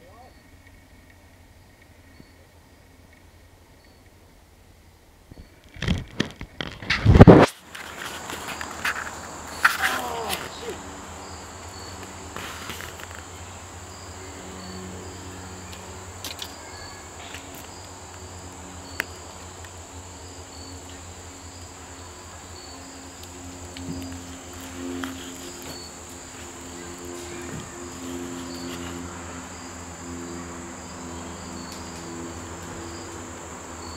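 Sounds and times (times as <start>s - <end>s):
insects trilling: 0.0s - 4.4s, 7.4s - 33.9s
low hum: 0.0s - 33.9s.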